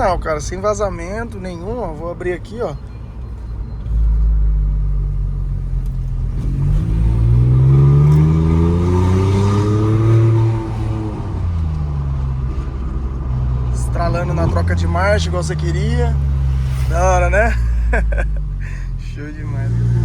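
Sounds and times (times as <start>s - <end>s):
car engine accelerating: 2.9s - 20.0s
exhaust crackle: 3.3s - 20.0s.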